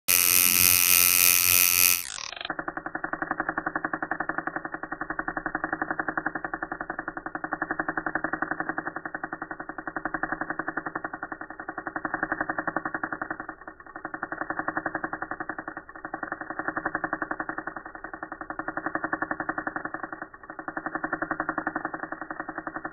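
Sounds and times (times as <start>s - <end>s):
slowed tattoo machine pulsing: 0.0s - 22.9s.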